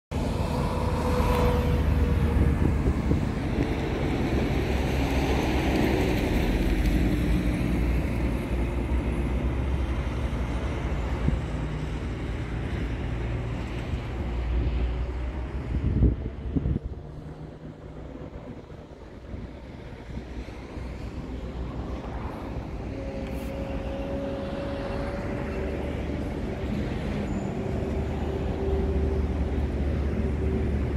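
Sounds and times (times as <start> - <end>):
highway traffic noise: 0.1 - 30.9
vehicle passing: 0.2 - 30.9
wind buffeting microphone: 0.2 - 30.9.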